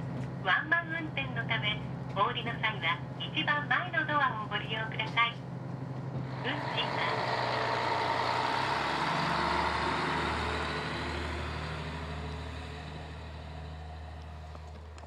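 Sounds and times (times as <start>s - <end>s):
diesel railcar engine drone: 0.0s - 15.0s.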